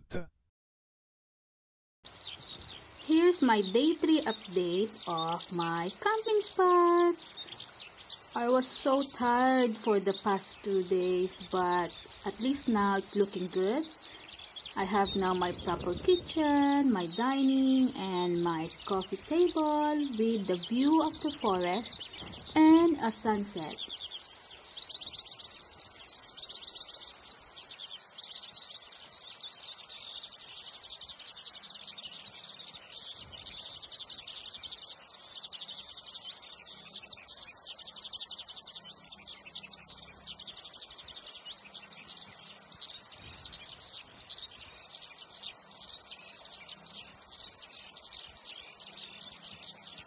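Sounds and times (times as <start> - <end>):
high-pitched chirping chorus: 2.1 - 50.0.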